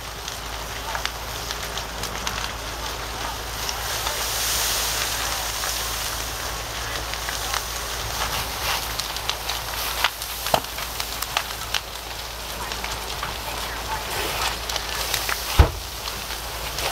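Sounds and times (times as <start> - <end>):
fire crackling and popping: 0.0 - 16.9
fire hose spraying: 0.0 - 16.9.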